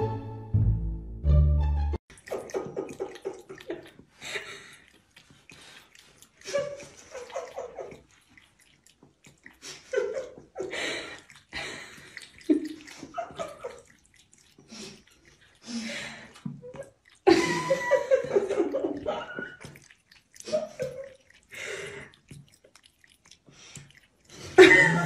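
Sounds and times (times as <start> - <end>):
water running from a tap: 2.1 - 25.0
water splashing: 2.1 - 25.0.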